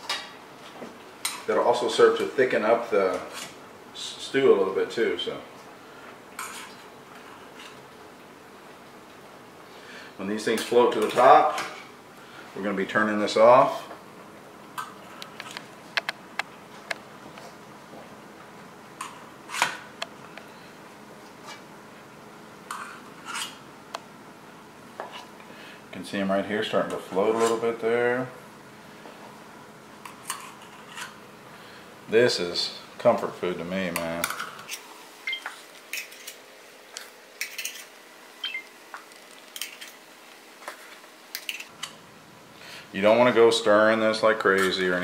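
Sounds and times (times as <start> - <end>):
faint background hum: 0.0 - 45.0.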